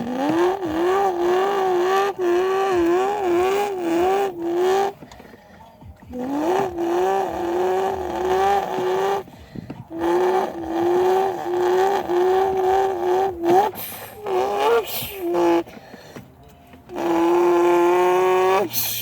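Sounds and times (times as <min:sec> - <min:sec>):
person imitating car engine: 0:00.0 - 0:05.1, 0:06.0 - 0:16.0, 0:16.9 - 0:19.0.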